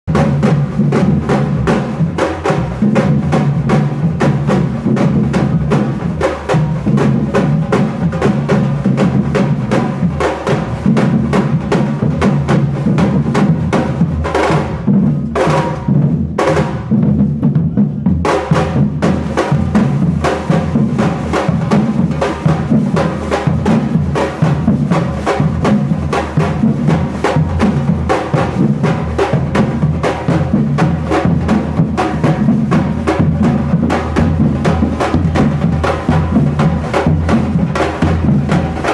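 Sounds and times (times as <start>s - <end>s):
drum ensemble playing: 0.1s - 38.9s.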